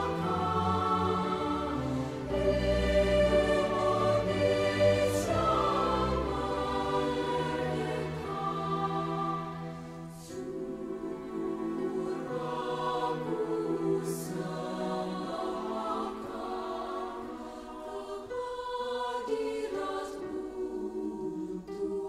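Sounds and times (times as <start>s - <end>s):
slow music of held chords: 0.0s - 22.0s.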